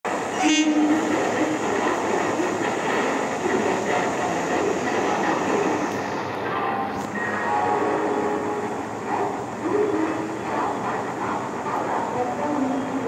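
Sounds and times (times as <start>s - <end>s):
din of trains: 0.0s - 13.0s.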